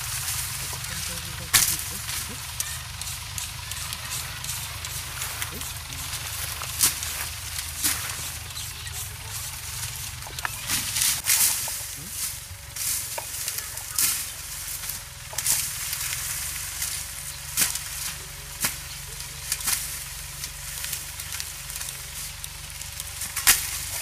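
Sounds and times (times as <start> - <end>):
crackling and hissing: 0.0 - 24.0
tractor engine rumbling: 0.0 - 24.0.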